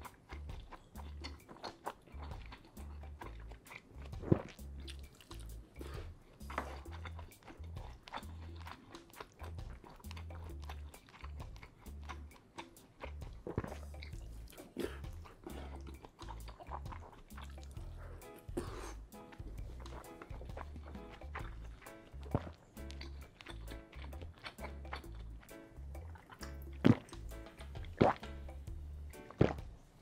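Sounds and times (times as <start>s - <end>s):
background music with bass line: 0.0s - 30.0s
chewing: 0.0s - 30.0s.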